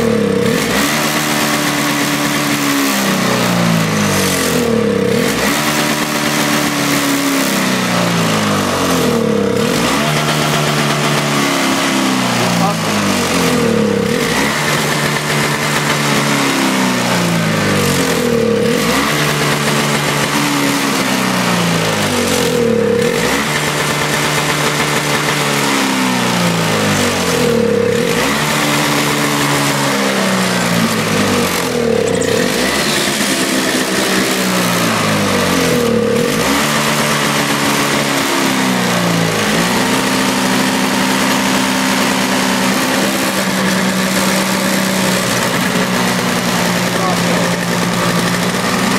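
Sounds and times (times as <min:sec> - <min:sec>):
snowblower engine surging: 0:00.0 - 0:48.9.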